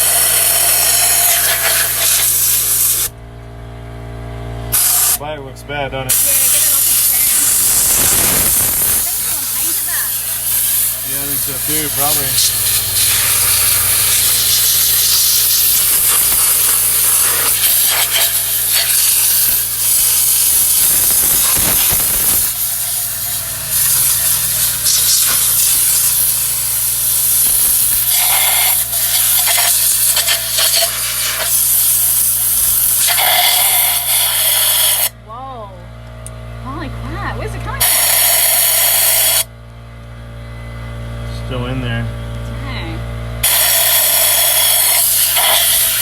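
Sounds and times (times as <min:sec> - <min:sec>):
compressed air hissing: 0:00.0 - 0:03.1, 0:04.7 - 0:05.2, 0:06.1 - 0:35.2, 0:37.8 - 0:39.5, 0:43.4 - 0:46.0.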